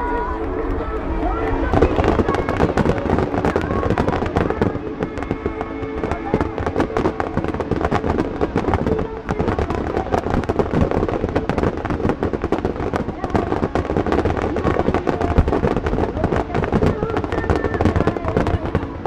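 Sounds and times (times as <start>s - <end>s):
fireworks bangs and cracks: 0.0s - 19.0s.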